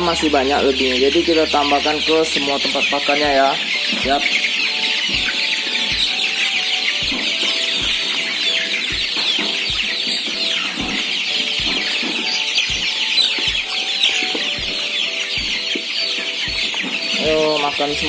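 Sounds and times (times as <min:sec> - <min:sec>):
background music: 0:00.0 - 0:18.0
chicks peeping: 0:00.0 - 0:18.0.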